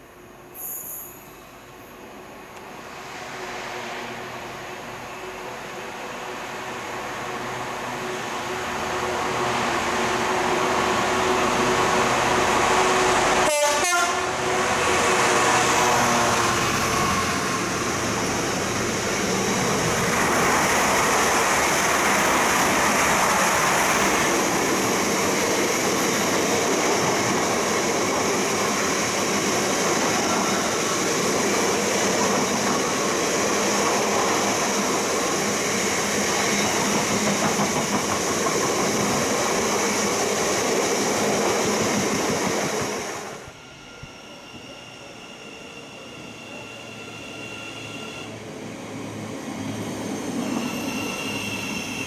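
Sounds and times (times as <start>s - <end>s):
train rushing through station: 0.0s - 52.0s.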